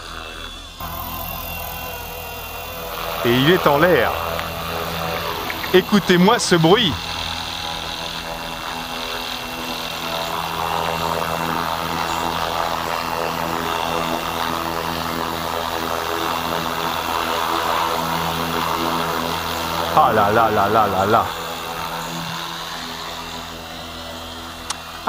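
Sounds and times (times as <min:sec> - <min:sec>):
rc helicopter rotor whirring: 0:00.0 - 0:25.0.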